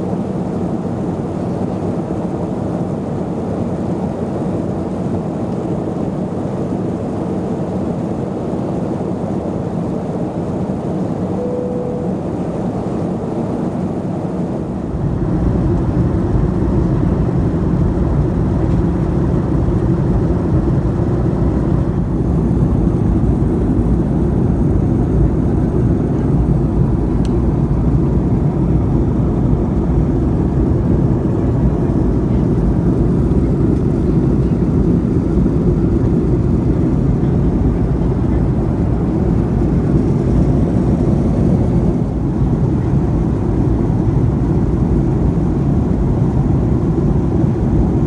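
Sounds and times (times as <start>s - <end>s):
airplane cabin noise: 0.0s - 48.0s.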